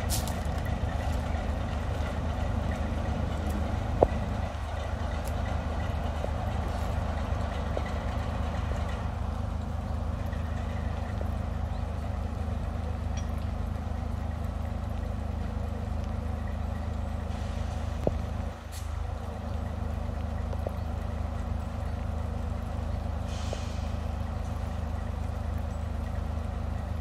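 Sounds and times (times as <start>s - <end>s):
diesel locomotive engine idling: 0.0s - 27.0s.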